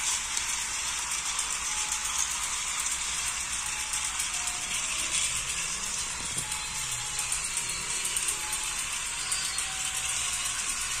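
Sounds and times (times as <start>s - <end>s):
toy trains rattling on track: 0.0s - 11.0s.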